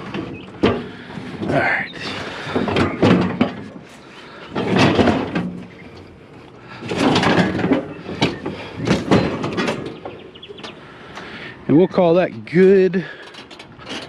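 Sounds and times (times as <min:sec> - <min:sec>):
scooter scraping and clunking: 0:00.0 - 0:14.0.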